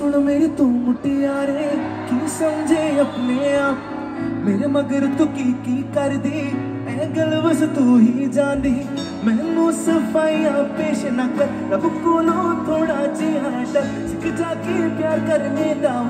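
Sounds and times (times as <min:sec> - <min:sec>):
keyboard: 0:00.0 - 0:16.0
person singing lead melody: 0:00.0 - 0:16.0.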